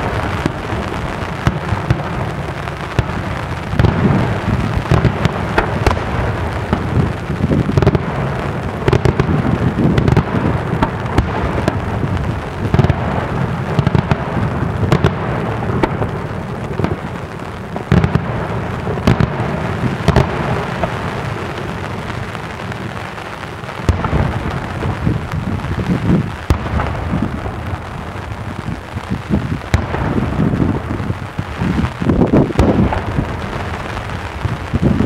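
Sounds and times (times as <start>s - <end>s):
fireworks bangs: 0.0s - 35.0s
rumble and crackle of detonations: 0.0s - 35.0s.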